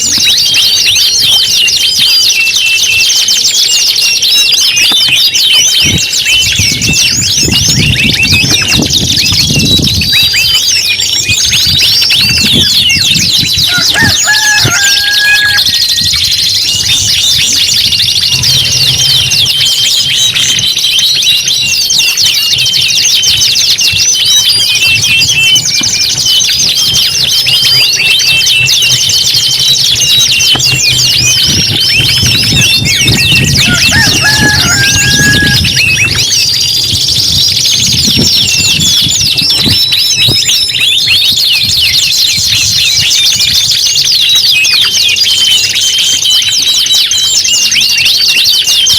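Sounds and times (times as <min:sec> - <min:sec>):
canaries singing trills: 0:00.0 - 0:48.9.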